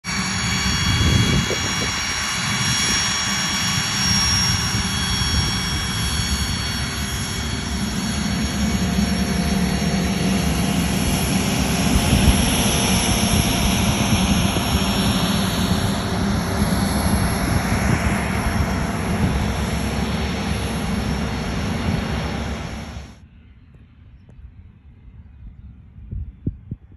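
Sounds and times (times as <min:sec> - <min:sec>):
jet engines whining at taxi: 0:00.0 - 0:23.3.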